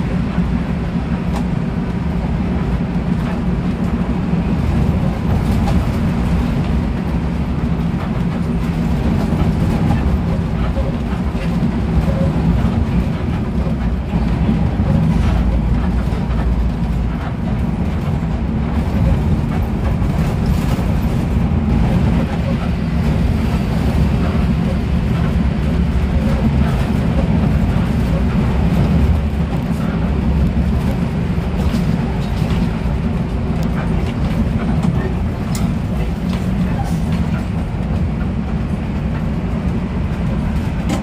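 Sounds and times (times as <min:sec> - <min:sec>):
bus engine and road rumble: 0:00.0 - 0:41.0.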